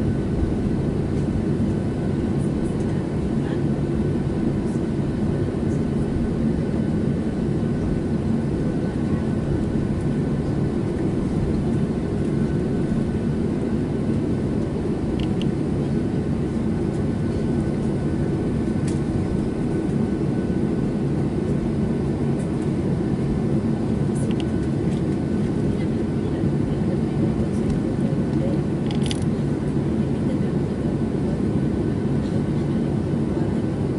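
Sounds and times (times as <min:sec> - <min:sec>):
jet engine roar in cabin: 0:00.0 - 0:33.9.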